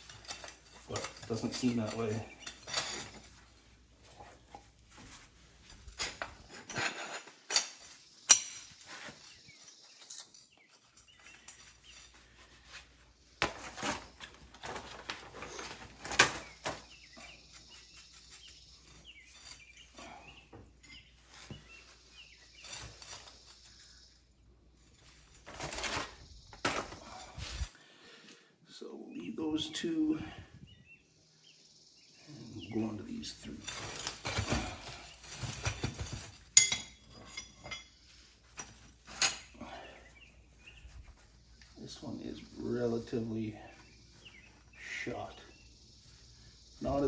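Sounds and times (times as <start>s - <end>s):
metal parts clinking and knocking: 0.0s - 27.7s, 33.2s - 47.0s.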